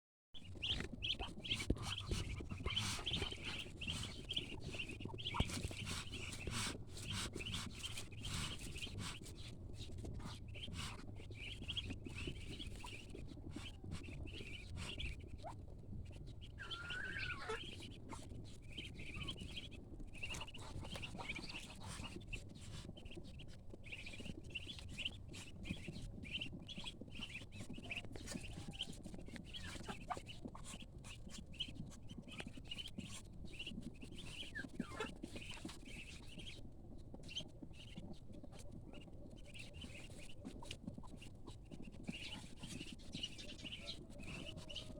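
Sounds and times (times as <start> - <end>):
ducklings peeping: 0.4 - 44.9.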